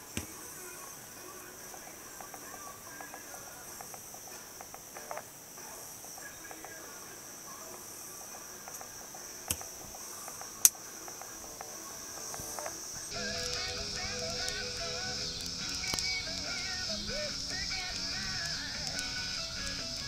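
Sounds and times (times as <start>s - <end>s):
high-pitched insect-like trill: 0.0s - 20.0s.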